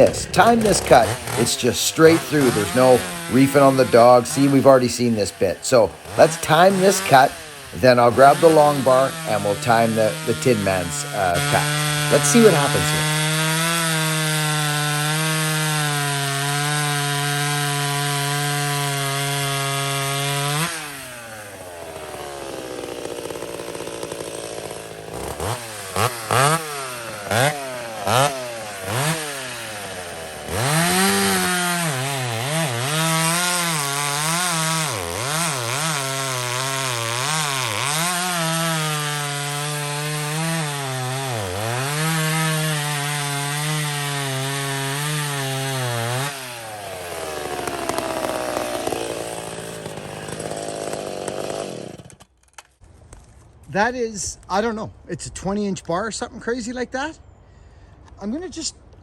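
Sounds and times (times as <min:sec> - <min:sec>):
chainsaw engine revving: 0:00.0 - 0:52.4
chainsaw cutting wood: 0:00.0 - 0:52.8.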